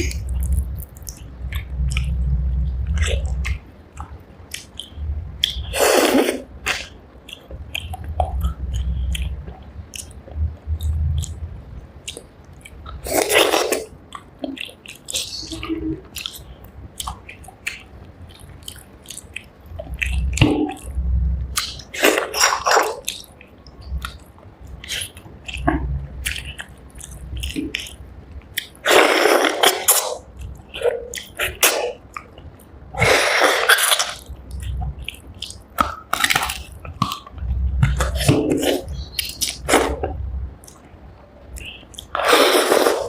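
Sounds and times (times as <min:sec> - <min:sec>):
wet chewing and smacking: 0:00.0 - 0:43.0.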